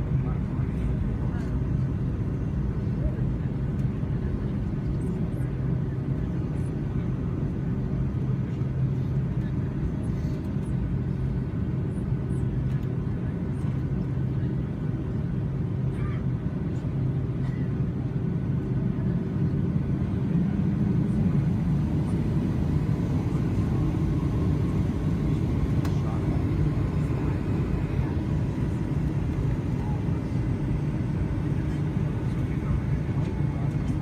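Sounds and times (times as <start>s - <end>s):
airplane engines idling: 0.0s - 34.0s.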